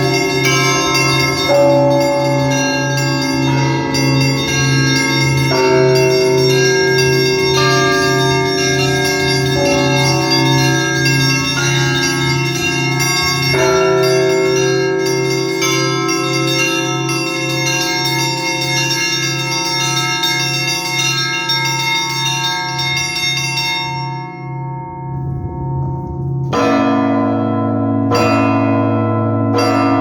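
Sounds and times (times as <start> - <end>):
low church bell striking: 0.0 - 30.0
smaller bells pealing: 0.0 - 30.0.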